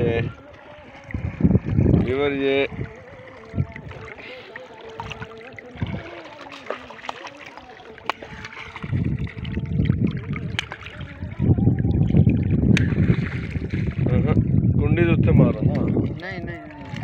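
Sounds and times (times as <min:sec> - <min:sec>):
water splashing and trickling: 0:00.0 - 0:17.0
wind rumbling on microphone: 0:00.0 - 0:17.0.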